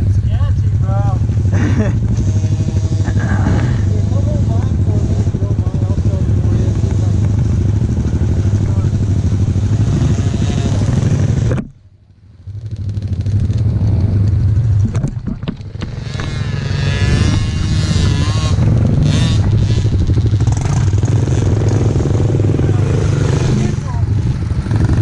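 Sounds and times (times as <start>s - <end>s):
pit bike engines running: 0.0s - 11.7s, 12.4s - 25.0s.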